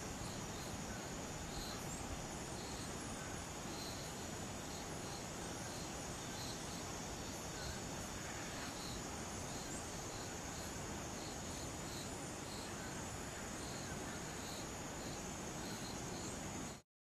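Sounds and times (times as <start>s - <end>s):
background hiss: 0.0s - 16.8s
insects high-pitched drone: 0.0s - 16.8s
soft insect chirp: 0.0s - 16.8s.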